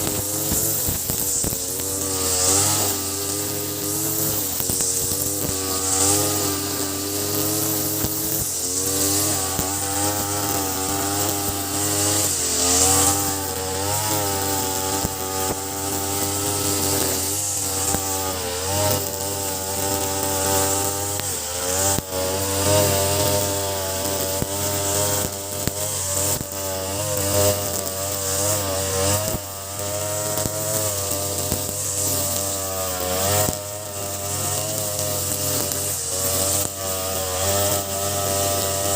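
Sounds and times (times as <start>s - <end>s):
brush cutter engine revving: 0.0s - 38.9s
trimmer line cutting grass: 0.0s - 38.9s.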